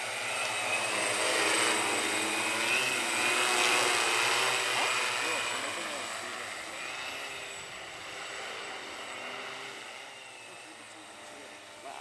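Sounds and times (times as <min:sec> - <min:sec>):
drone rotors humming: 0:00.0 - 0:12.0.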